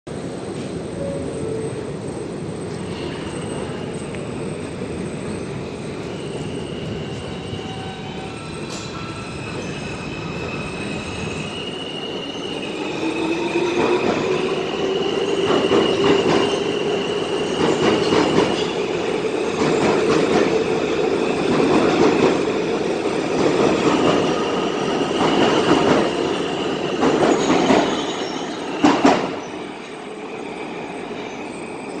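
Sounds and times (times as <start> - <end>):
subway wheels squealing: 0.1 - 32.0.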